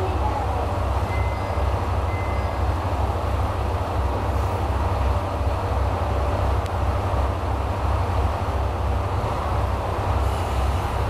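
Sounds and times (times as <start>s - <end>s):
diesel engines idling: 0.0s - 11.0s.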